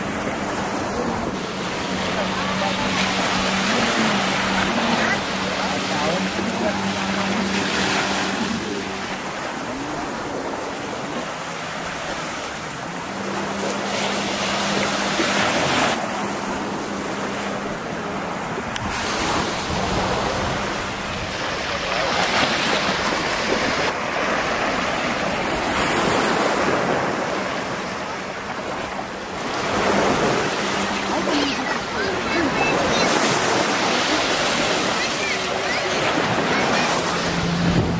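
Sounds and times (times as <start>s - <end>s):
small surf on sandy beach: 0.0s - 37.9s.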